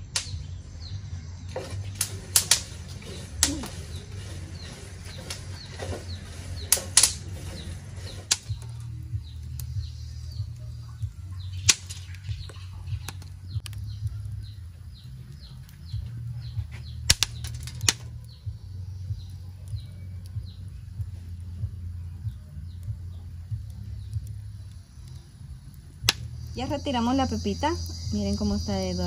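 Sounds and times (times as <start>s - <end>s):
seeds popping and crackling: 0.0s - 29.0s.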